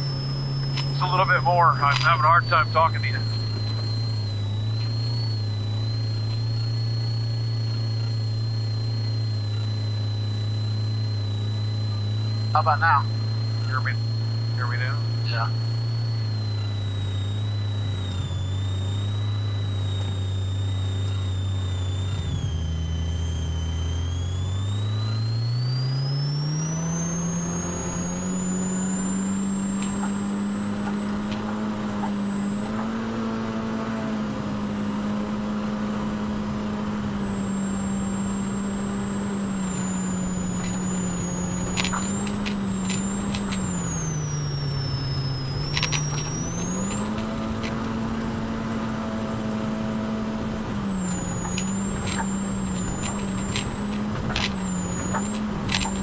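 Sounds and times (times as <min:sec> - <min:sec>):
engine accelerating hard: 0:00.0 - 0:56.0
high whine: 0:00.0 - 0:56.0
road noise: 0:00.0 - 0:56.0.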